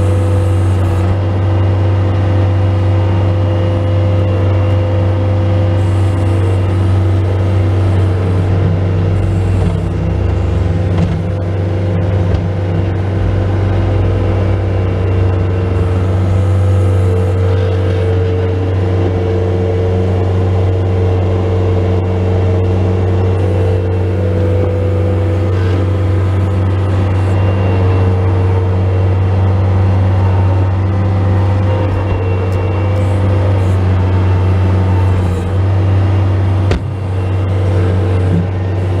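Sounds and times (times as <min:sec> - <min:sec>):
skid steer diesel engine running: 0:00.0 - 0:39.0.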